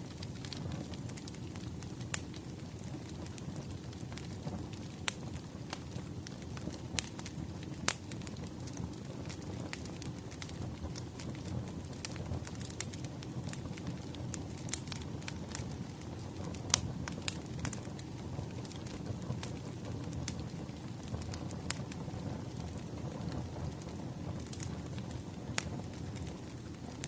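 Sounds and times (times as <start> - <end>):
low fire rumble: 0.0 - 27.0
fire pops and snaps: 0.1 - 27.0.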